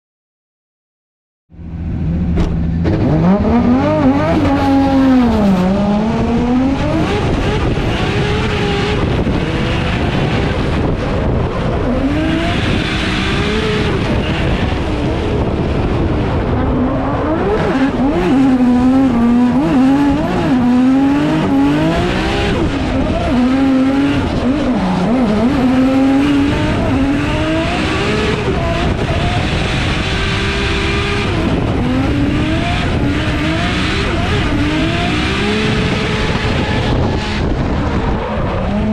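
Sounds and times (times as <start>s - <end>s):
car engine revving: 1.6s - 38.9s.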